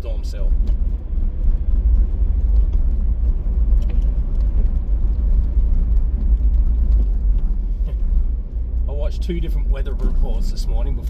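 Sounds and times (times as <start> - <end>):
car driving on road: 0.0 - 11.0.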